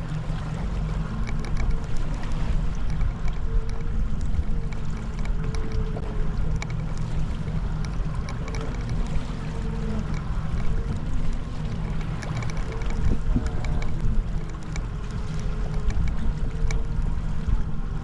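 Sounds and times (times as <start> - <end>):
boat motor droning: 0.0 - 18.0
wind buffeting microphone: 0.0 - 18.0.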